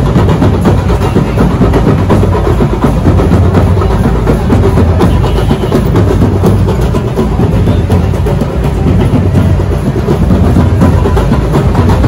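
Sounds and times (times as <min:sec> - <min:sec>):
loud music with drums: 0:00.0 - 0:12.0.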